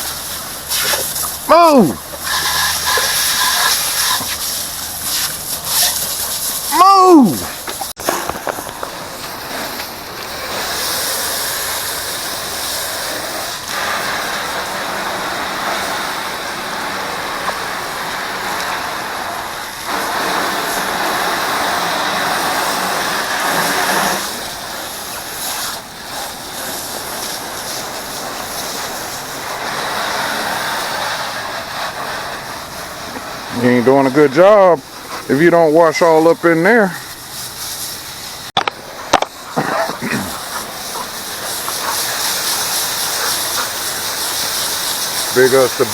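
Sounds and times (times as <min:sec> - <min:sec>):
garden hose spraying water: 0:00.0 - 0:45.9.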